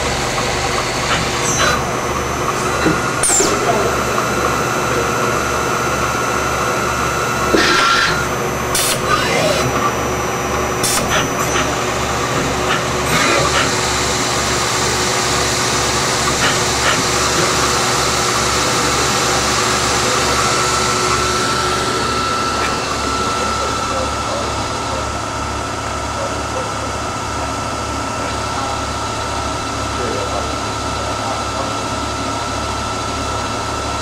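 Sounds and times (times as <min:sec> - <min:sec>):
high machine whine: 0:00.0 - 0:34.0
lathe whirring: 0:00.0 - 0:34.0.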